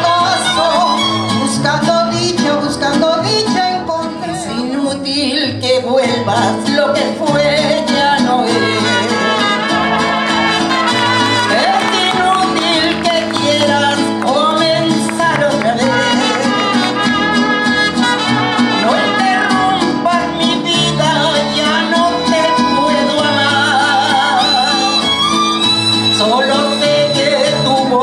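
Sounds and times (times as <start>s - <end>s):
woman singing: 0.0s - 9.6s, 11.3s - 16.9s, 18.7s - 25.0s, 26.2s - 28.0s
mariachi band playing: 0.0s - 28.0s.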